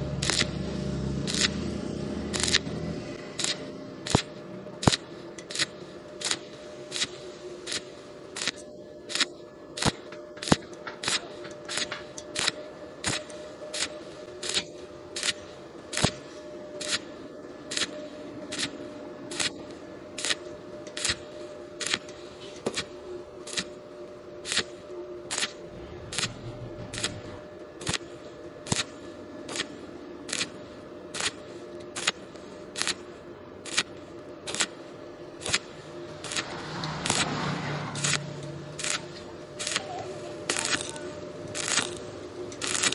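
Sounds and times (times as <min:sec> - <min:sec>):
low welder hum: 0:00.0 - 0:42.9
welding arc crackling: 0:00.0 - 0:42.9.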